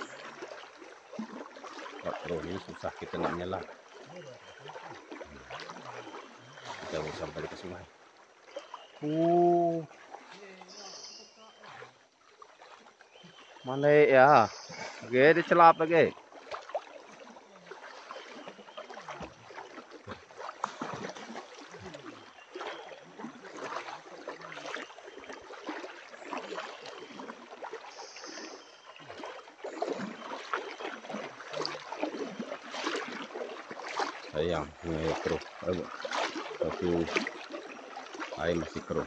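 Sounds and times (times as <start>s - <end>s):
river water splashing and trickling: 0.0s - 39.0s.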